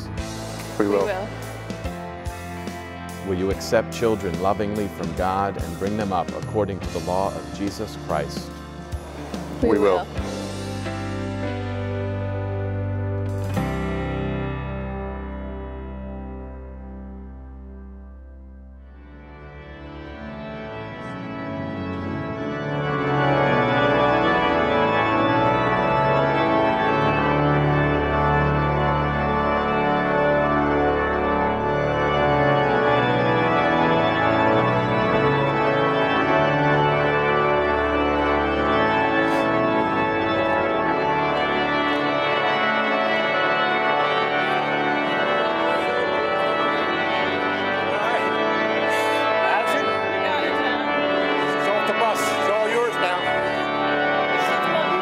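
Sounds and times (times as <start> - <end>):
organ playing slow chords: 0.0 - 55.0.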